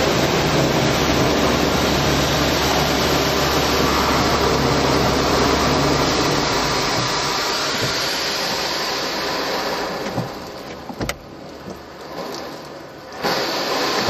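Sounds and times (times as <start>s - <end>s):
car wash equipment rushing: 0.0s - 14.0s.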